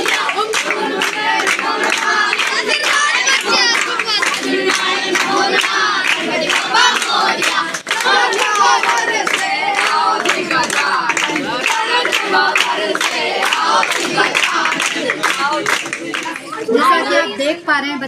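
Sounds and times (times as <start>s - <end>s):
rhythmic clapping: 0.0s - 17.0s
children singing: 0.0s - 17.4s.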